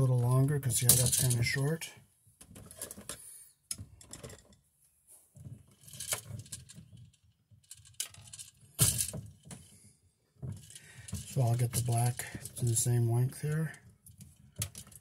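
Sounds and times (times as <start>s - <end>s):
wire strippers clicking and rustling: 0.0s - 1.7s, 2.4s - 4.6s, 5.4s - 9.8s, 10.4s - 15.0s.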